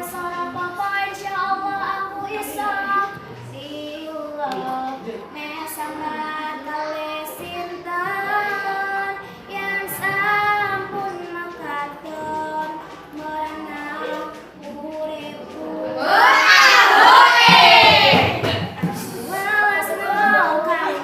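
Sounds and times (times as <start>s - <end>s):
girl singing slowly: 0.0s - 18.4s, 19.1s - 21.0s
overlapping voices: 0.0s - 21.0s.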